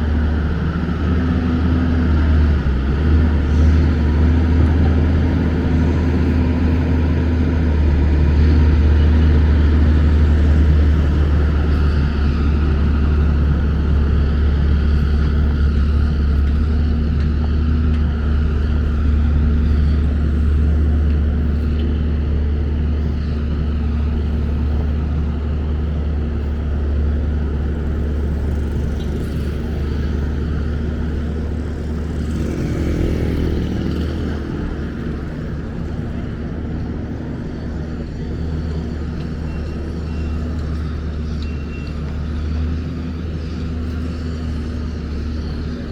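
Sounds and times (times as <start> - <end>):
passing traffic: 0.0 - 45.9.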